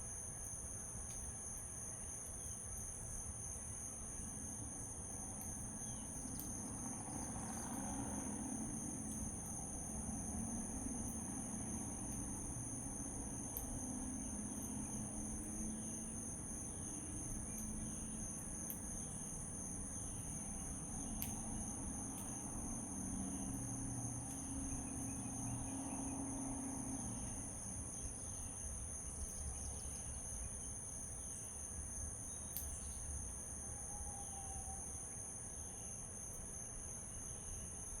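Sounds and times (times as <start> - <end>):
insects trilling: 0.1 - 38.0.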